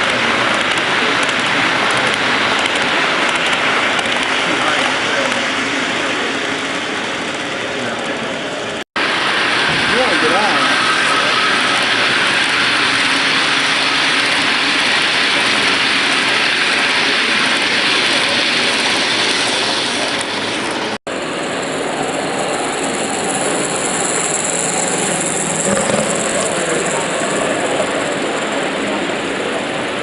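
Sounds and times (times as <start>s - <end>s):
model train rumbling: 0.0s - 30.0s.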